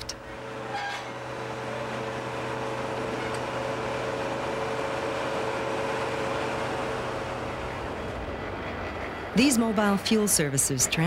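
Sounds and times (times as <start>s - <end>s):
tanker truck engine drone: 0.0s - 11.0s.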